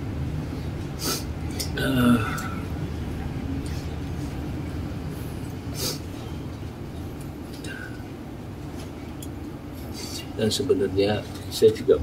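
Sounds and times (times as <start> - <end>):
low room rumble: 0.0 - 12.0.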